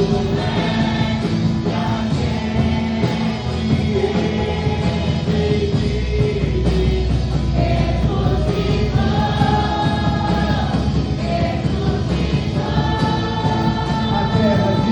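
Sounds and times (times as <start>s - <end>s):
gospel song with band: 0.0s - 14.9s
steady bass: 0.0s - 14.9s
voices singing together: 0.0s - 14.9s.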